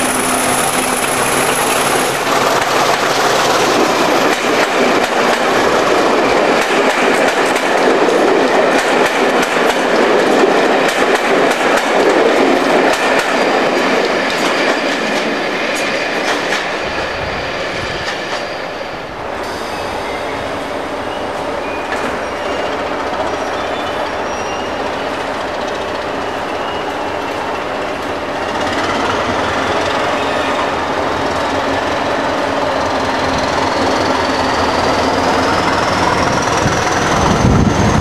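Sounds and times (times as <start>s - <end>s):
train wheels clicking over rail joints: 0.0s - 17.1s, 21.8s - 38.0s.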